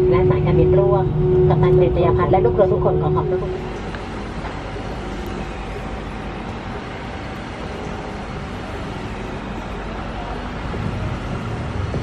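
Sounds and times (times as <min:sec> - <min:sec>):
mechanical rumble and hiss: 0:00.0 - 0:12.0.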